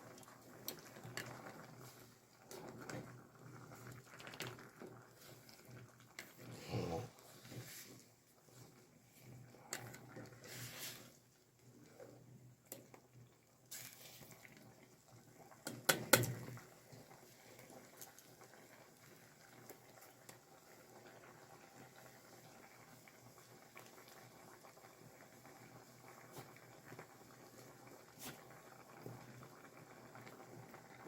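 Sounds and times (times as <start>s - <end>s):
pot bubbling over campfire: 0.0s - 31.0s.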